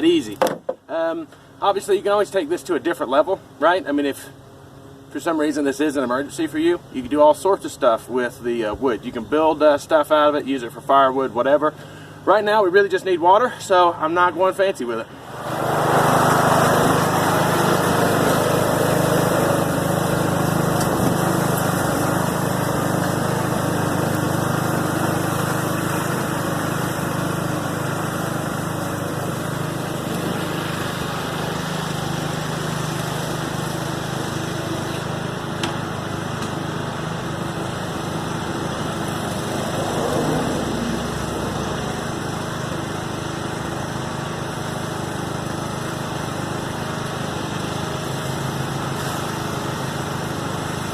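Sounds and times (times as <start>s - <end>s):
riding lawn mower engine: 0.0s - 50.9s.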